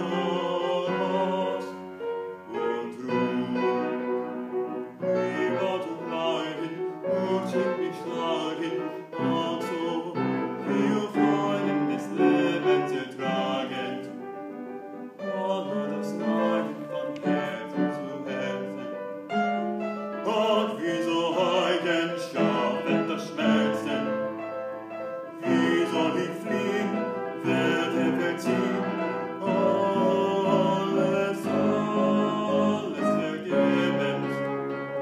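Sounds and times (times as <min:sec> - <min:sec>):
man singing operatically: 0:00.0 - 0:04.2, 0:05.0 - 0:14.2, 0:15.2 - 0:19.0, 0:20.2 - 0:24.7, 0:25.4 - 0:34.8
piano chords: 0:00.0 - 0:35.0.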